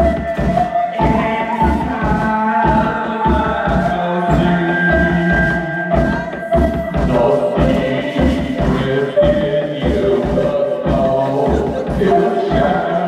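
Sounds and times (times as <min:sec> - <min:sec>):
bass drum beat: 0:00.0 - 0:13.0.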